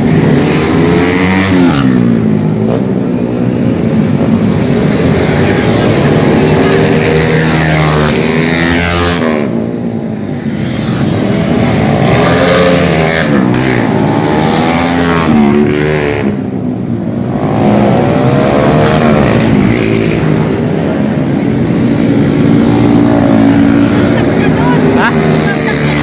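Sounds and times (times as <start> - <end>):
racing scooter engines revving: 0.0 - 26.0.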